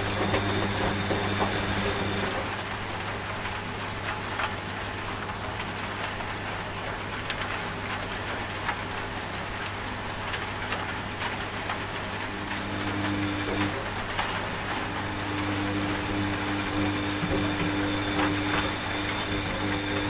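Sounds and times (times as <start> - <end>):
rain falling: 0.0 - 20.0
washing machine humming: 0.0 - 20.0.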